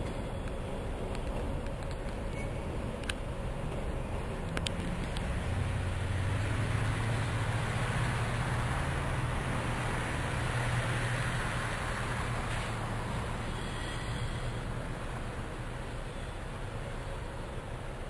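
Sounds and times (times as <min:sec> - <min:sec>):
diesel locomotive engine drone: 0:00.0 - 0:18.0
road traffic: 0:00.0 - 0:18.0.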